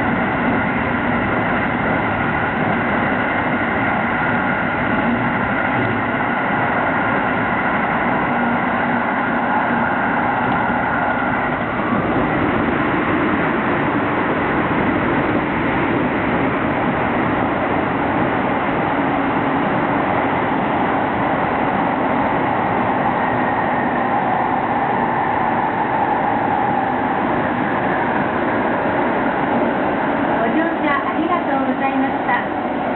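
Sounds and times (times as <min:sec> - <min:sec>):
train rumble and rail noise: 0:00.0 - 0:32.9.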